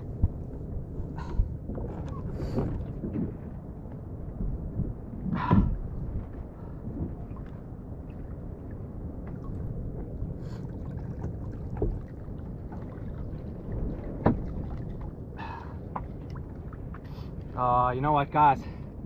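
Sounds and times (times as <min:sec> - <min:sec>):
low wash of water: 0:00.0 - 0:19.0.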